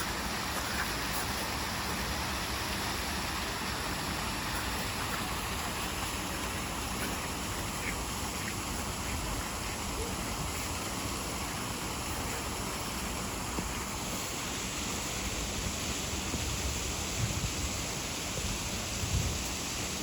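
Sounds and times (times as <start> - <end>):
waterfall splashing into pond: 0.0 - 20.0.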